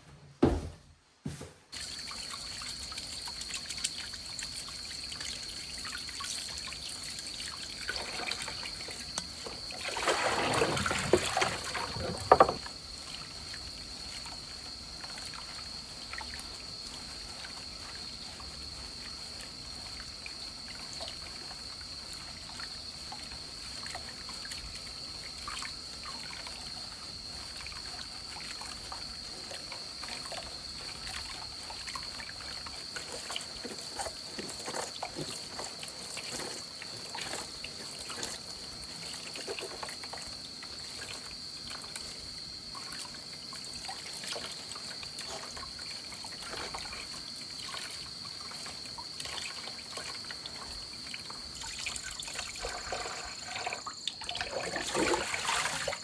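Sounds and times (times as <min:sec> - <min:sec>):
water trickling: 0:01.7 - 0:56.0
rush of water: 0:01.8 - 0:14.4, 0:22.4 - 0:56.0.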